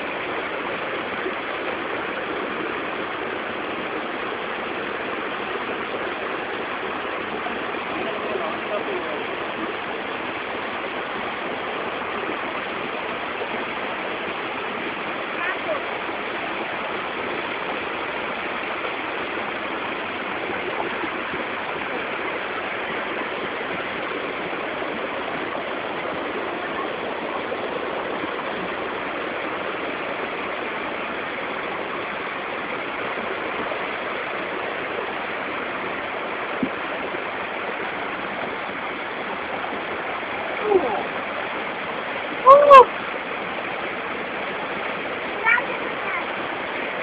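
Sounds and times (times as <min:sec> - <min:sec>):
waterfall gushing: 0:00.0 - 0:47.0.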